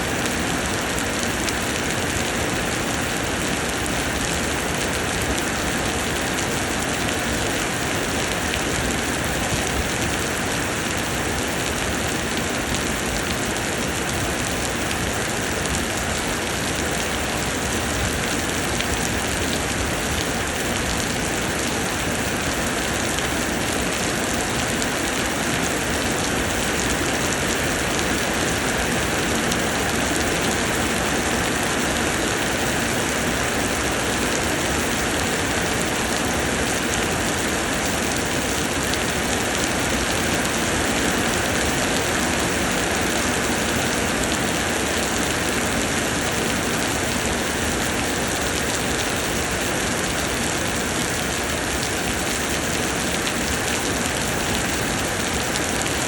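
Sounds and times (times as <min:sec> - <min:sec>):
rain pouring: 0:00.0 - 0:56.0.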